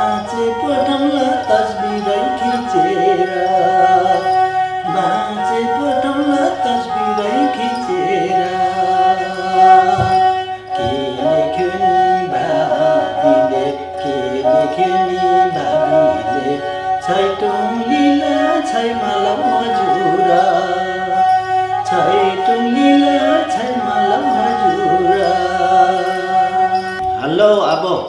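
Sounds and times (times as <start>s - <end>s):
bowed fiddle folk melody: 0.0s - 28.0s
high drone note: 0.0s - 28.0s.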